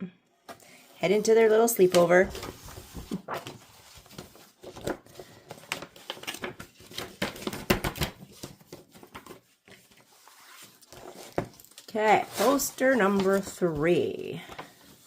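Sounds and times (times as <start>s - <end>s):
paper rustling and crinkling: 0.8s - 15.0s.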